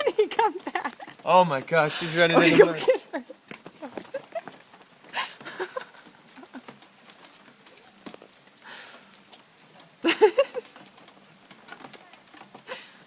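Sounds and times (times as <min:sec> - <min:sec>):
faint rain patter: 0:00.0 - 0:13.0.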